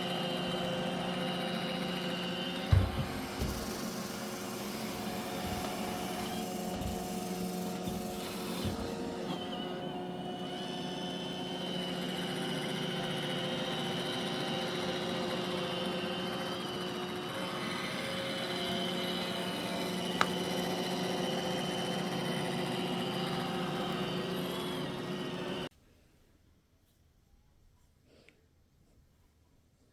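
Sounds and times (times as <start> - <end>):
robot vacuum humming: 0.0 - 25.7.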